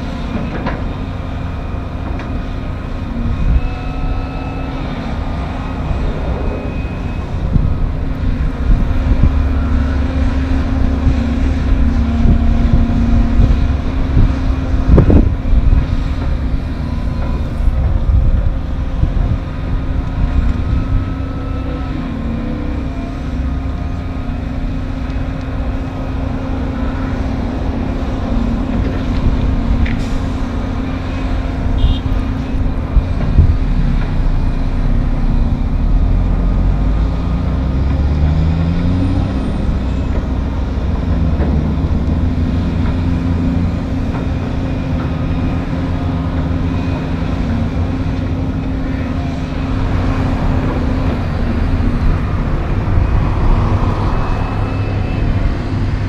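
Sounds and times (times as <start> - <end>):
diesel engines rumbling: 0.0 - 56.0
truck engine revving: 4.2 - 56.0.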